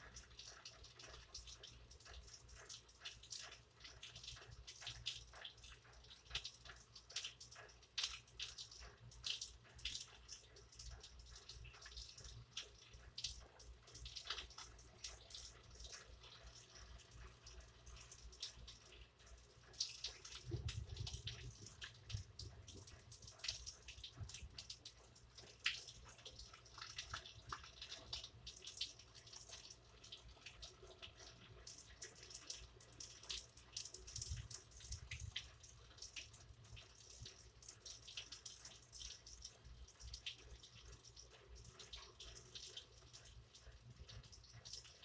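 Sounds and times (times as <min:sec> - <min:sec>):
rain pattering: 0:00.0 - 0:45.0
water drips ticking: 0:00.0 - 0:45.0.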